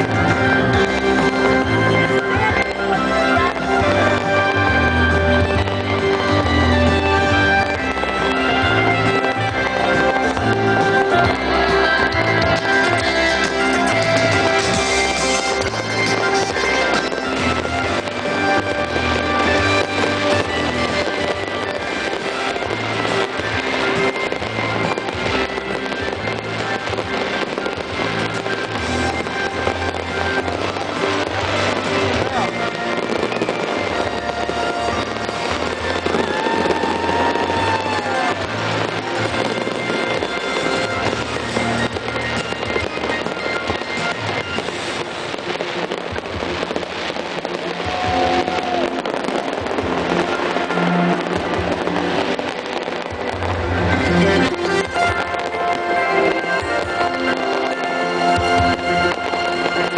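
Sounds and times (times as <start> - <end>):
fireworks bursting and crackling: 0.0 - 59.9
music playing: 0.0 - 59.9.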